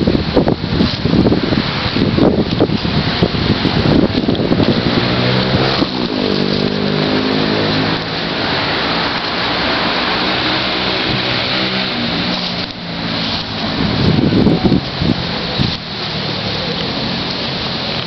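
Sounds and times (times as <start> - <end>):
constant rushing noise: 0.0 - 18.0.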